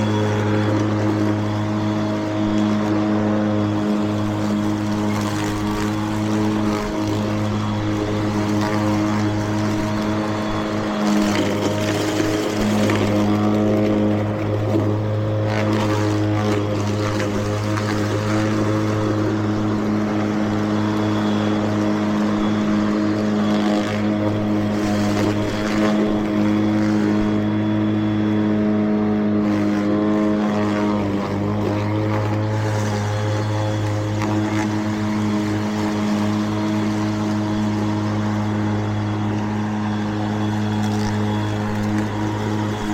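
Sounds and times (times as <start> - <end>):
electric mower humming: 0.0 - 42.9.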